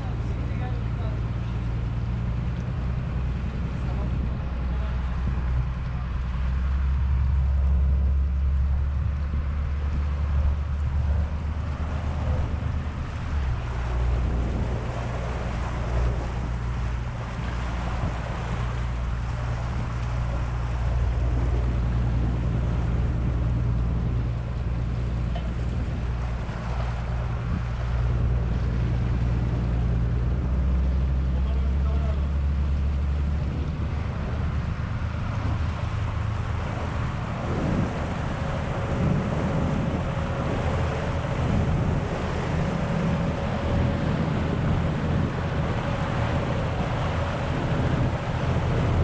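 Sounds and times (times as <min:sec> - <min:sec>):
boat engine droning: 0:00.0 - 0:49.0
water churning in wake: 0:00.0 - 0:49.0.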